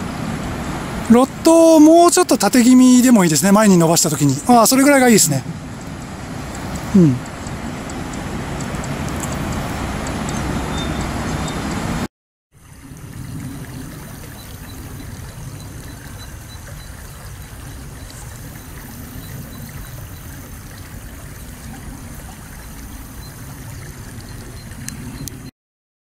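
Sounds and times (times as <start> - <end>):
shallow river flowing: 0.0 - 25.5.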